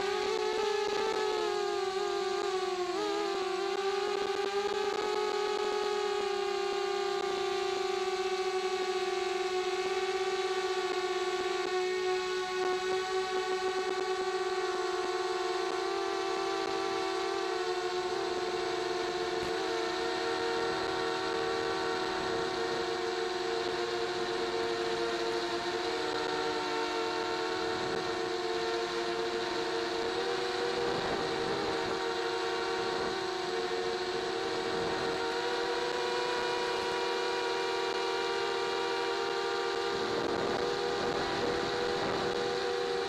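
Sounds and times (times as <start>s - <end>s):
quadcopter motors whining: 0.0s - 43.0s.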